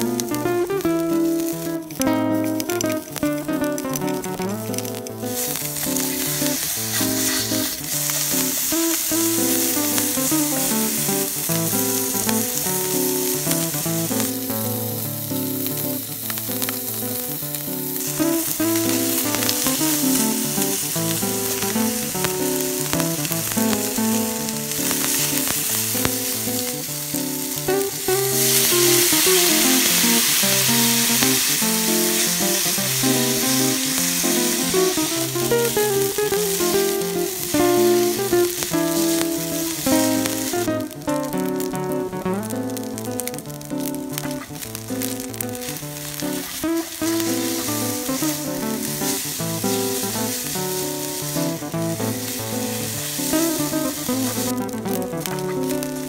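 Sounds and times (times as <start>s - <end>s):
acoustic guitar music: 0.0s - 56.0s
food sizzling in a frying pan: 0.0s - 56.0s.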